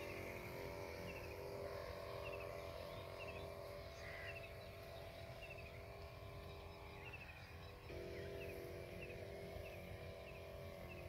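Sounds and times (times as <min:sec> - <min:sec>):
small bird chirping: 0:00.0 - 0:11.0
steady hum: 0:00.0 - 0:11.0.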